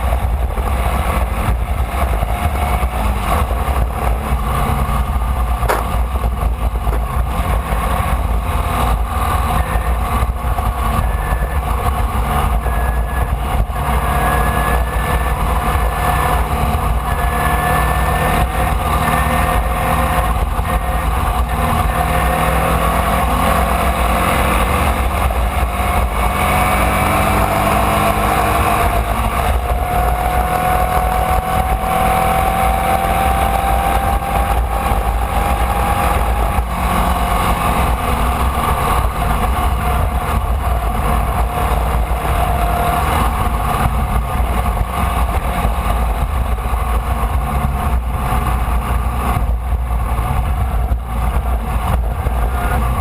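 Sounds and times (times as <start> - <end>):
racing car engine under load: 0.0 - 53.0
wind rumble on microphone: 0.0 - 53.0.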